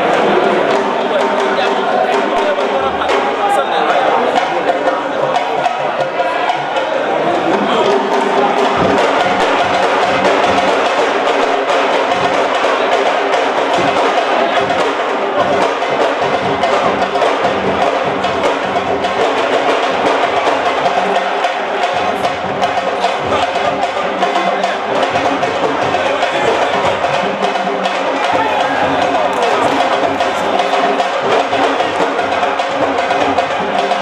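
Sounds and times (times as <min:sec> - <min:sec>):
fast dense drumming music: 0:05.2 - 0:34.0.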